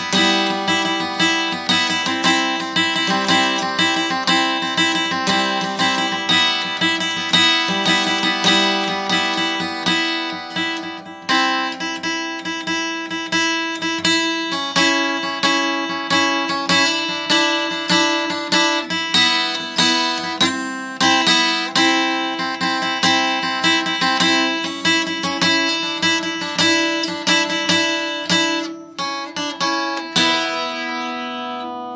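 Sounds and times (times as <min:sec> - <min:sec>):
acoustic guitar strumming: 0:00.0 - 0:31.9.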